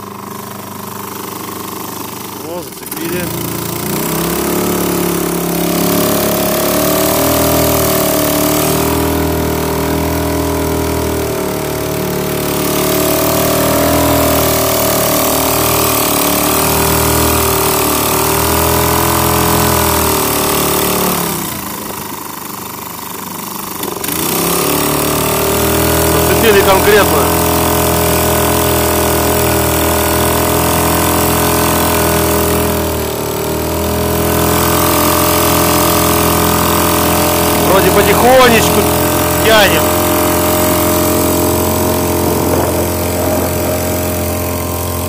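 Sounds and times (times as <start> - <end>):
outboard motor running hard: 0.0 - 45.0.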